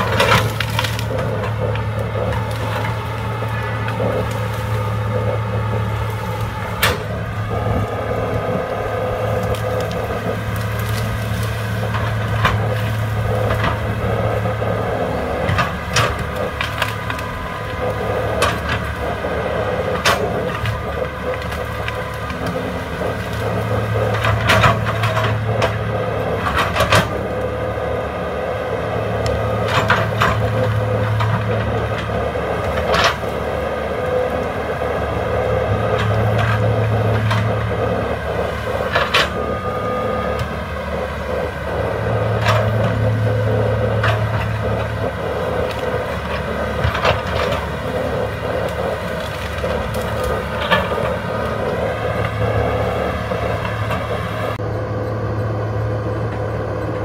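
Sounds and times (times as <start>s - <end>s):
excavator diesel engine rumble: 0.0s - 57.0s.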